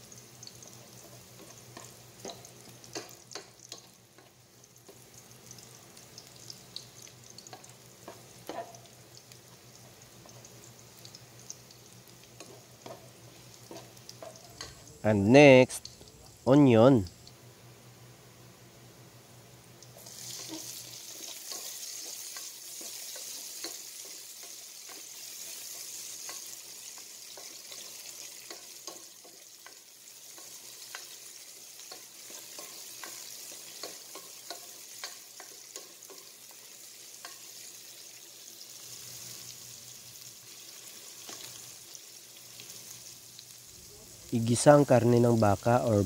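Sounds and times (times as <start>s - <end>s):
onion sizzling in hot oil: 0.0s - 46.0s.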